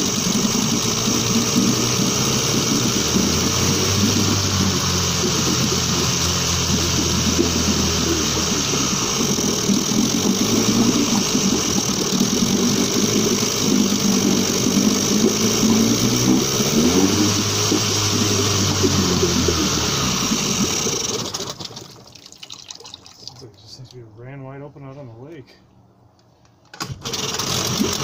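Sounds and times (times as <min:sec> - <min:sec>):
outboard motor running: 0:00.0 - 0:23.6, 0:26.8 - 0:28.0.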